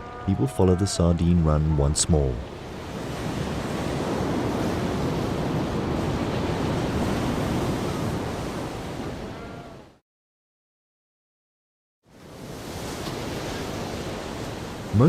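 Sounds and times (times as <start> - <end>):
ocean waves surging: 0.0 - 10.0, 12.1 - 15.0.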